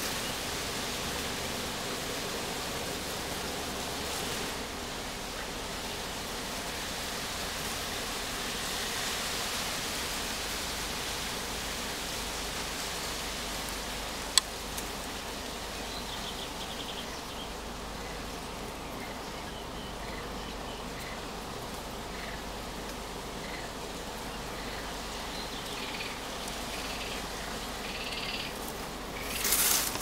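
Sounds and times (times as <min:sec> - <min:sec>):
outdoor background hiss: 0:00.0 - 0:30.0.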